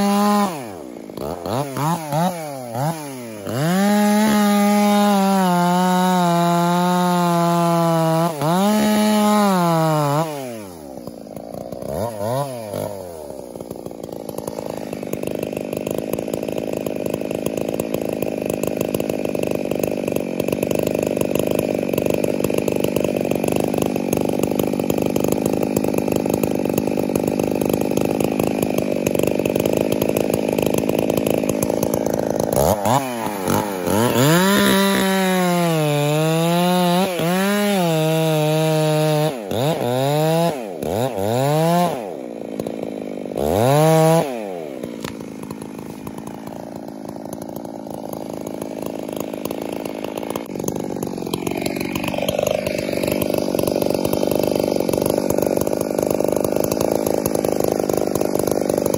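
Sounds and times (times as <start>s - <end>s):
chainsaw cutting and revving: 0.0s - 58.9s.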